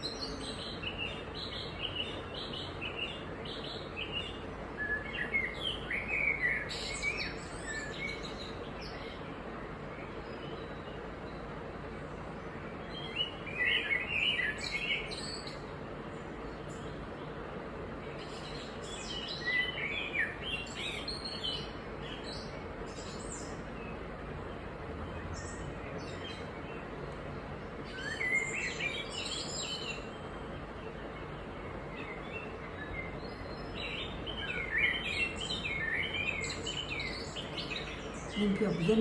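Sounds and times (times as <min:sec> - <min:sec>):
background hiss: 0:00.0 - 0:39.0
birds chirping: 0:00.0 - 0:39.0.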